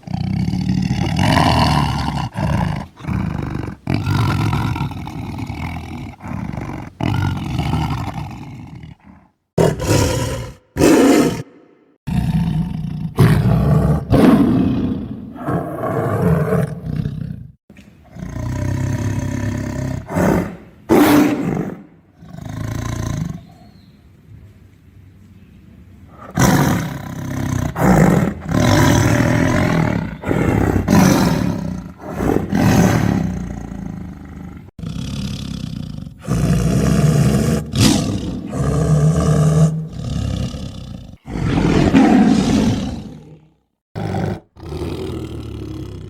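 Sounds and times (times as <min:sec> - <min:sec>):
tiger roaring and snarling: 0:00.0 - 0:23.6, 0:26.1 - 0:46.0.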